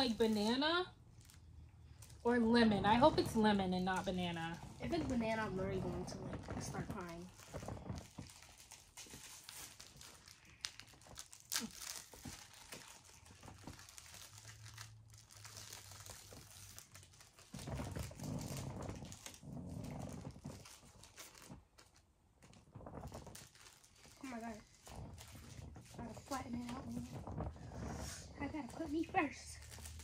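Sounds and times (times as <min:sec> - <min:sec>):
plastic candy wrappers crinkling: 0:00.0 - 0:28.0, 0:28.6 - 0:30.0.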